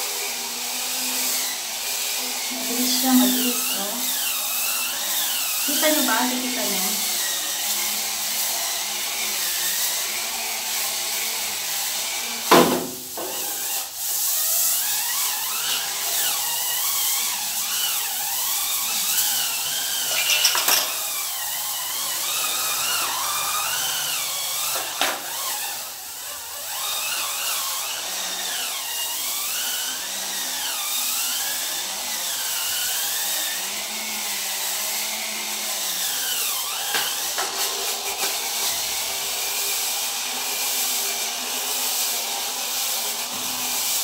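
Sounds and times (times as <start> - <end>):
brush scrubbing wet tiled floor: 0.0 - 44.0
spin scrubber motor whirring: 0.0 - 44.0.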